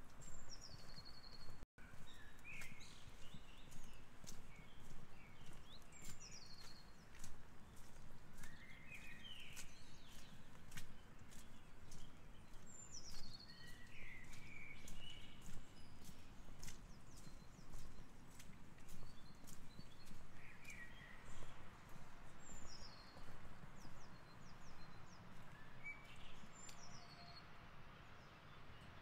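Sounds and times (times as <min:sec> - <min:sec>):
footsteps on pavement: 0:00.0 - 0:27.0.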